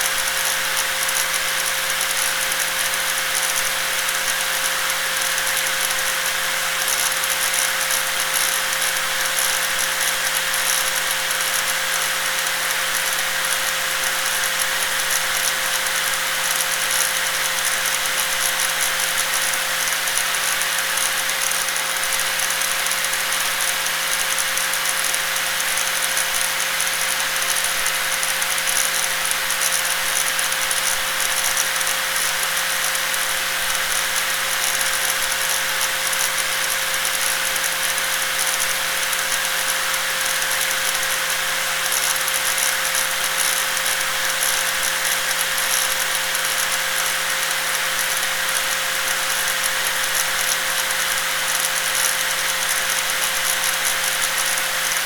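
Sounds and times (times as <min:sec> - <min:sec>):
electric angle grinder running: 0:00.1 - 0:55.0.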